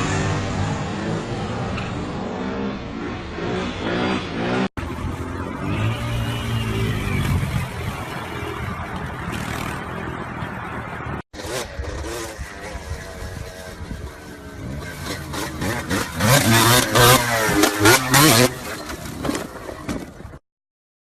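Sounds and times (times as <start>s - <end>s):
motorcycle engine revving: 0.0s - 10.2s, 11.3s - 19.5s.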